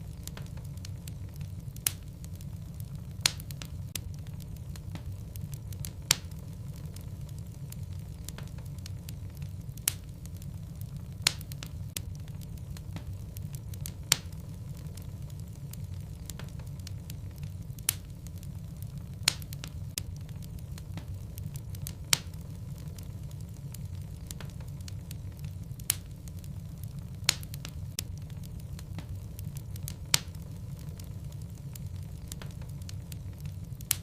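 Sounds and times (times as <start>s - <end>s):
fire rumbling and crackling: 0.0s - 34.0s
sharp pops of burning logs: 0.1s - 34.0s.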